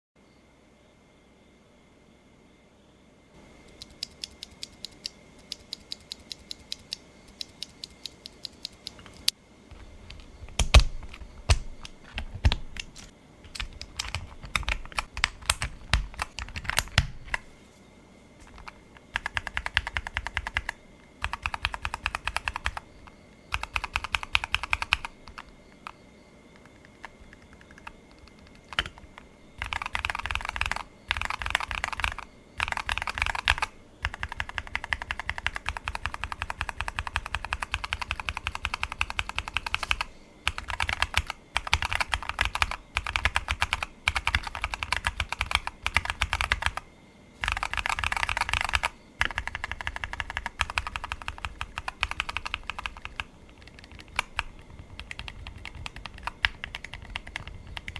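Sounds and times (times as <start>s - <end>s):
mechanical keyboard typing: 3.7s - 17.4s, 18.4s - 22.9s, 23.5s - 26.0s, 26.6s - 46.8s, 47.4s - 57.9s.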